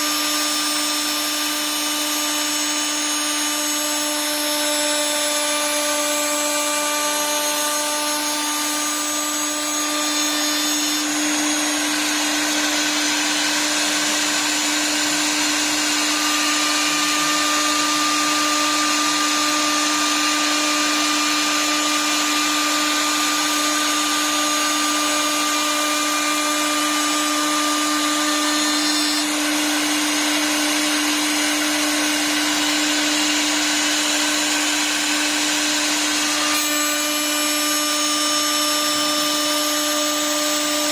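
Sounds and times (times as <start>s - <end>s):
wood lathe milling wood: 0.0s - 40.9s.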